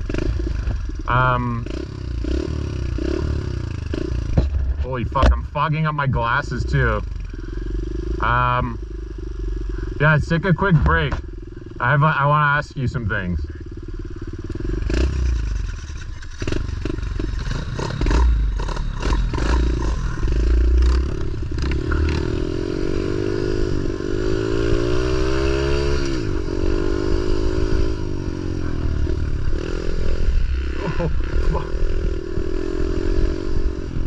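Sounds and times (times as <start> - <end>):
pit bike engine revving: 0.0 - 34.0.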